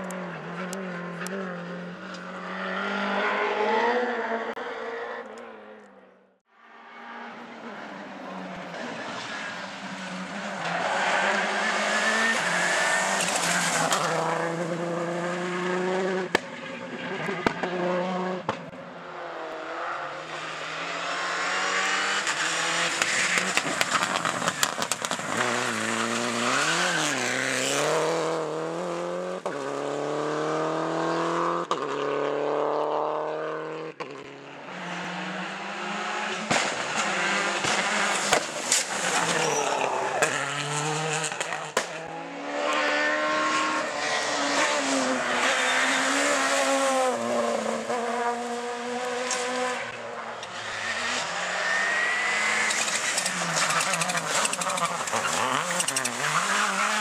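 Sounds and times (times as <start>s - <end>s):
rally car engines revving past: 0.0s - 6.1s, 6.7s - 57.0s.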